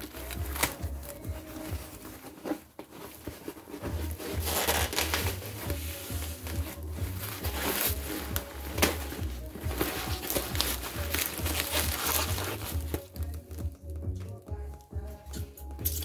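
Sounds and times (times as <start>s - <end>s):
music with bass beat: 0.0s - 2.2s, 3.8s - 16.0s
foam packing sheet crinkling: 0.0s - 14.0s.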